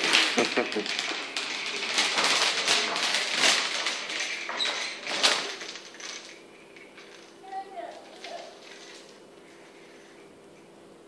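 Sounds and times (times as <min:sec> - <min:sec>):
wooden toy rolling on tile floor: 0:00.0 - 0:10.1.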